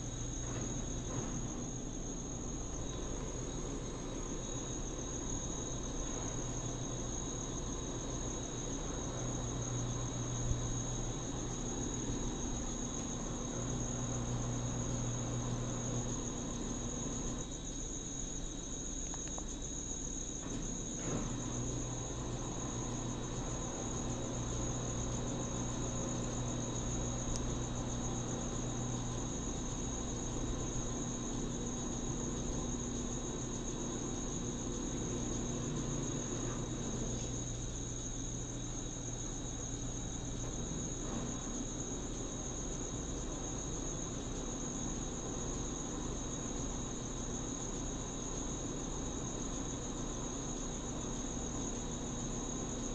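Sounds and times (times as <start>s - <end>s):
washing machine running: 0.0s - 18.9s, 19.5s - 52.9s
low electric hum: 0.0s - 52.9s.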